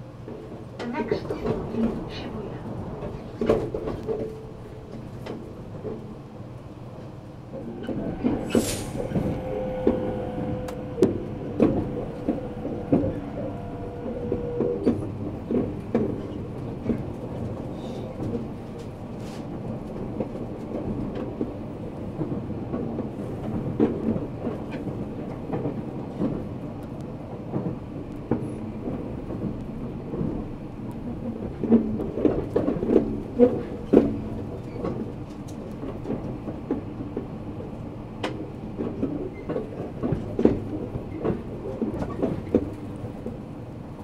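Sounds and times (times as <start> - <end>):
train running noise: 0.0 - 44.0.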